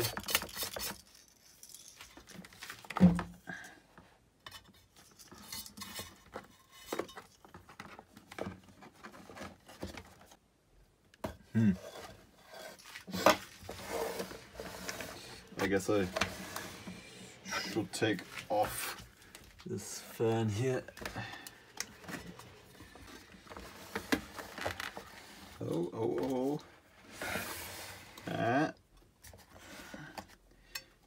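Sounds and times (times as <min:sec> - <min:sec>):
plastic and metal parts clattering: 0:00.0 - 0:03.5, 0:04.4 - 0:10.4, 0:11.8 - 0:27.5.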